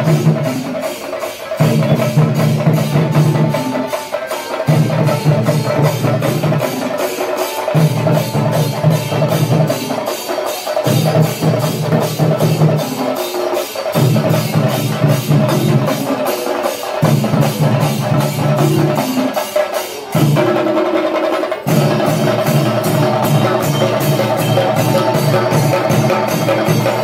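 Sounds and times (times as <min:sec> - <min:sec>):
drummers playing fast beat: 0:00.0 - 0:27.0.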